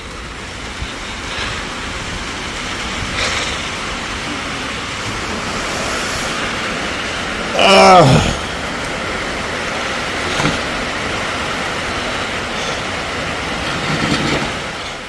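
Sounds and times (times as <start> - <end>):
storm wind gusting: 0.0 - 15.0.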